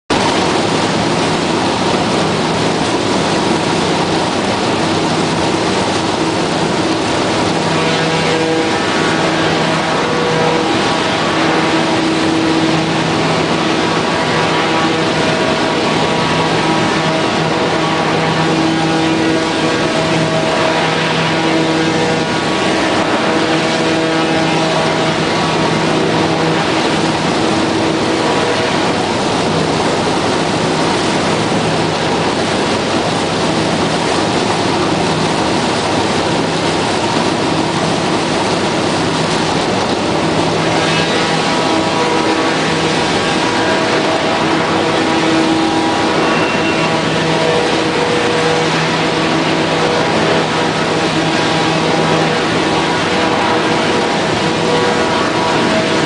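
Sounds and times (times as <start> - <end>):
machine hum: 0.1 - 56.0.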